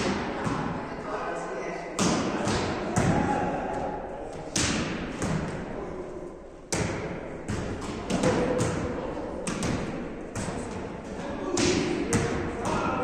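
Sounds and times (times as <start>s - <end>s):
volleyballs being hit by hands: 2.0s - 13.0s.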